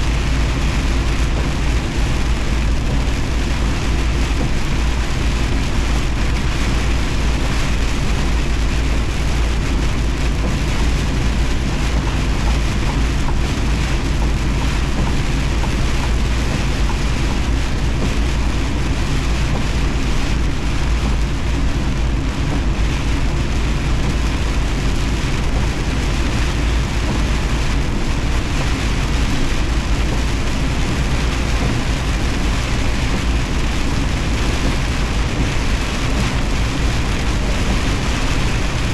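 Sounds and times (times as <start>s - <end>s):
heavy rain hitting truck: 0.0s - 38.9s
truck engine and tyres drone: 0.0s - 38.9s.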